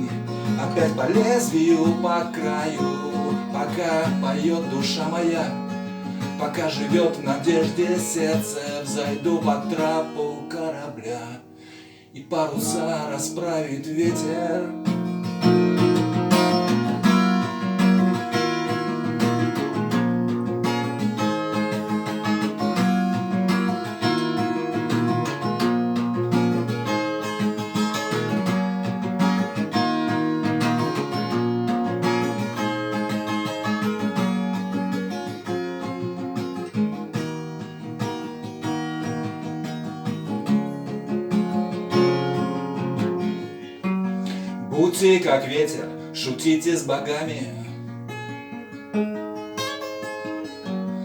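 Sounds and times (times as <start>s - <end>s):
acoustic guitar playing: 0.0s - 51.0s.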